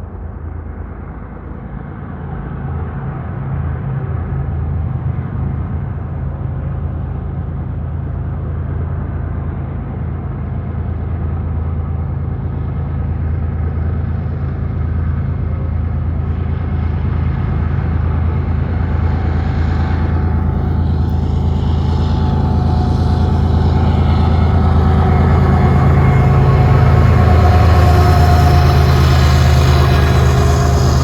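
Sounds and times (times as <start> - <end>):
diesel locomotive engines rumbling: 0.0 - 31.0.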